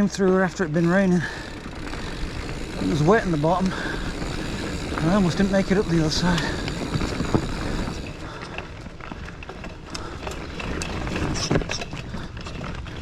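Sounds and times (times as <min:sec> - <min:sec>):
bike frame rattling and clicking: 0:00.0 - 0:13.0
bike tyres rumbling on dirt: 0:00.0 - 0:13.0.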